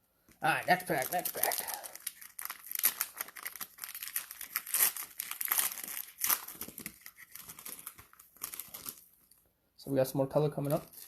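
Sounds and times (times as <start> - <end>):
cellophane wrapper tearing and crinkling: 0.5 - 9.4, 10.6 - 11.0.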